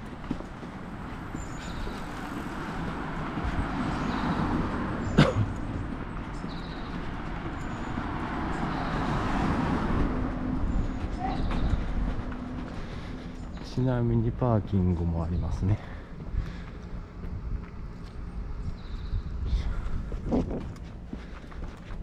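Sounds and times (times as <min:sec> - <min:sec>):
car passing on road: 0:00.0 - 0:19.2.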